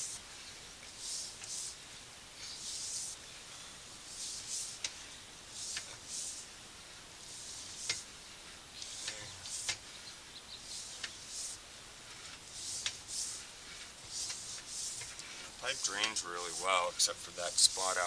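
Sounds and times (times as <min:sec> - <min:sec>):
cable rubbing with short hisses: 0:00.0 - 0:03.3, 0:04.0 - 0:06.5, 0:07.2 - 0:08.1, 0:08.8 - 0:10.0, 0:10.6 - 0:18.0.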